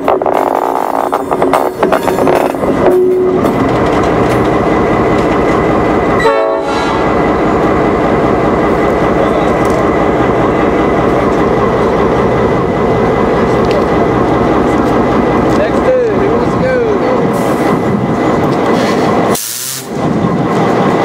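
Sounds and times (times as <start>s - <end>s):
wheels rolling on rails: 0.0s - 6.2s, 7.2s - 21.0s
diesel locomotive engine: 0.0s - 21.0s.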